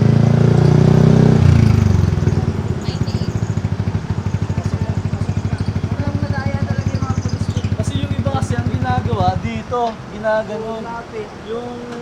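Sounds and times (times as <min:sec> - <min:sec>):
scooter engine revving and idling: 0:00.0 - 0:10.0.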